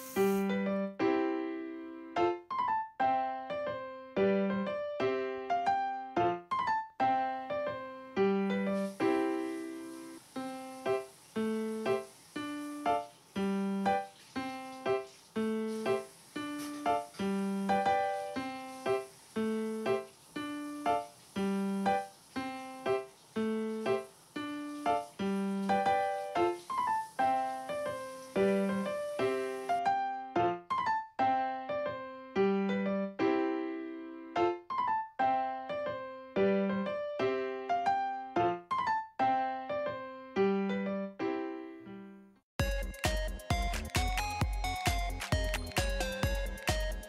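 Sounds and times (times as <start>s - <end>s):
gentle piano melody: 0.0s - 47.0s.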